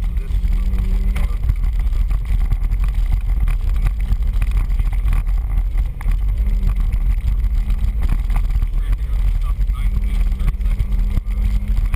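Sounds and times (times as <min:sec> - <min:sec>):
truck engine rumble: 0:00.0 - 0:11.9.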